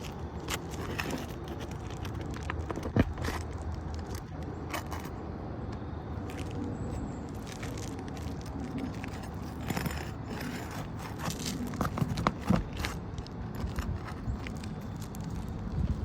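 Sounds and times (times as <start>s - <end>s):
hand tools scraping shingles: 0.0s - 5.2s, 7.4s - 15.1s
steady low rumble: 0.0s - 16.0s.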